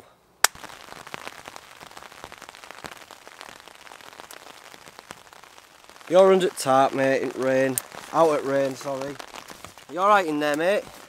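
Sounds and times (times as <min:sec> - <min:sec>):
rain pattering on a tarp: 0:00.4 - 0:11.0.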